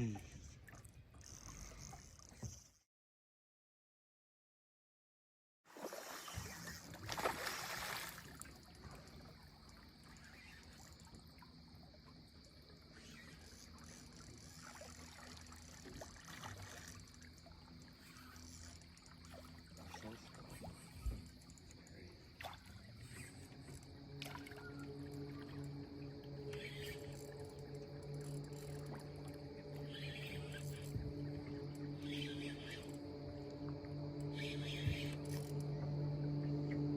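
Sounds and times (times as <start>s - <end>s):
running water: 5.8s - 36.1s.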